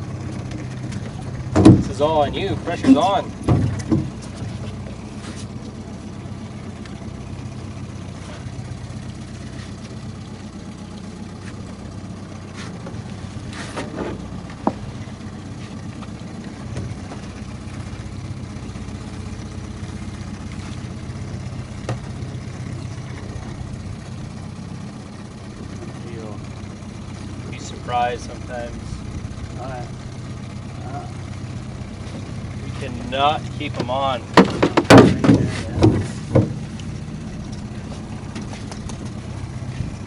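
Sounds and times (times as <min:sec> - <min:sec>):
boat motor humming: 0:00.0 - 0:40.0.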